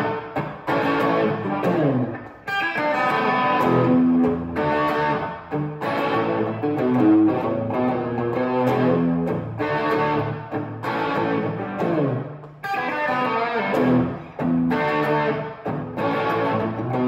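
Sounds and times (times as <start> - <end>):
electric guitar riff: 0.0 - 17.0.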